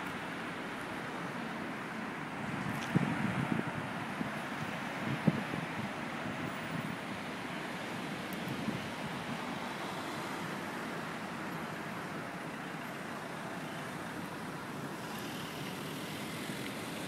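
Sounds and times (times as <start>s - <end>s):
street traffic passing: 0.0s - 17.0s.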